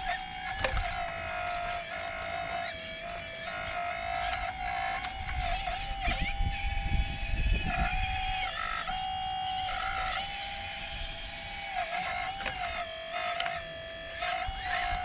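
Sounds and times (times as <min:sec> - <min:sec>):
electric pump motor whining: 0:00.0 - 0:15.0.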